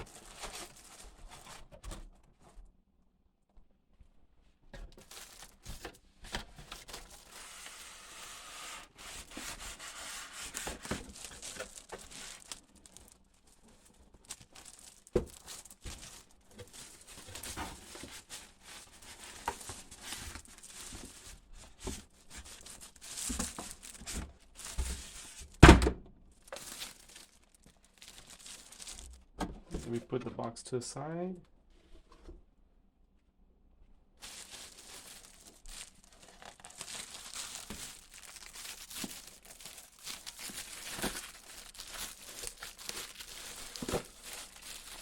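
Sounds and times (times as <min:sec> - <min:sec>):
cardboard and packaging rustling: 0:00.0 - 0:02.7, 0:04.7 - 0:25.7, 0:26.3 - 0:30.5, 0:34.2 - 0:45.0.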